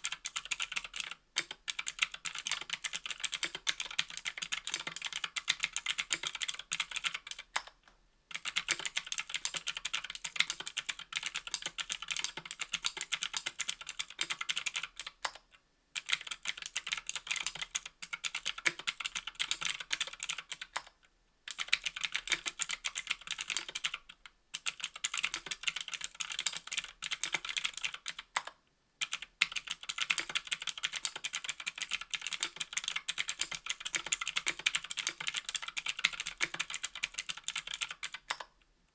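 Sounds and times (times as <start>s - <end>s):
fast typing on clicky keyboard: 0.0s - 15.4s, 16.0s - 38.5s.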